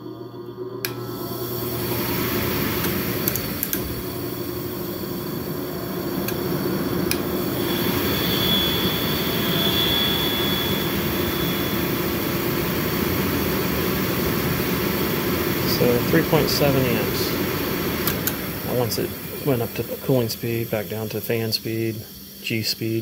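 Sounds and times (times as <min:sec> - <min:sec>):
blower motor hum and air rush: 0:00.0 - 0:23.0
thin high whine: 0:00.0 - 0:23.0.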